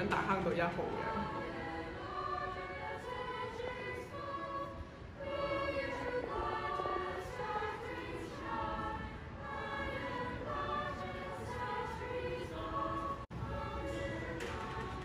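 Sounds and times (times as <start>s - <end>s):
choir singing: 0.1s - 15.0s.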